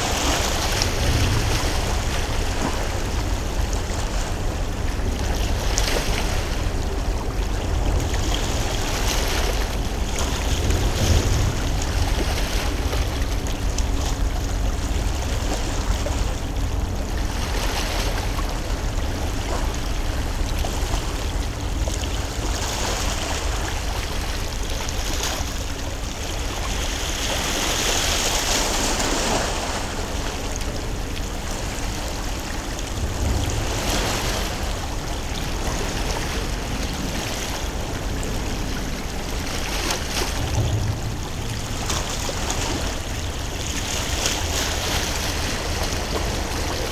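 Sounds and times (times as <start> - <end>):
deep rumble: 0.0 - 28.9, 29.6 - 46.9
rushing water and wind: 0.0 - 46.9.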